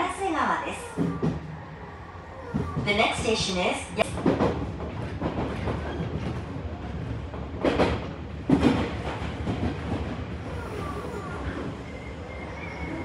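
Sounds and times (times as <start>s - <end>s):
train wheels rumbling on rail: 0.0s - 13.0s
wheels clacking over rail joints: 0.8s - 13.0s.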